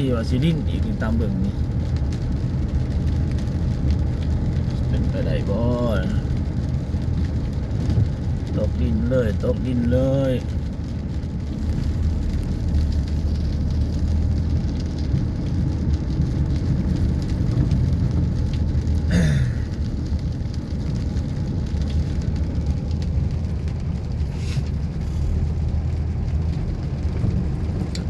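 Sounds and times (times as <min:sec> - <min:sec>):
deep continuous rumble: 0:00.0 - 0:28.0
heavy rain falling: 0:00.0 - 0:28.0.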